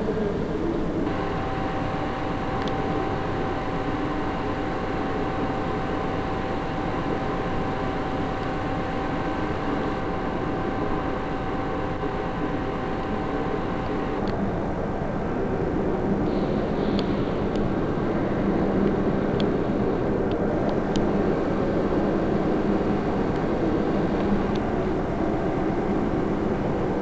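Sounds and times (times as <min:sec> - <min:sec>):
background hum: 0:00.0 - 0:27.0
constant whine: 0:00.0 - 0:27.0.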